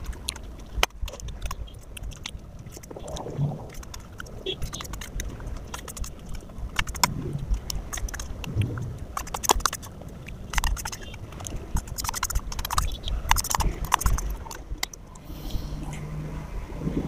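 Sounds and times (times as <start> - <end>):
close eating sounds: 0.0 - 16.1.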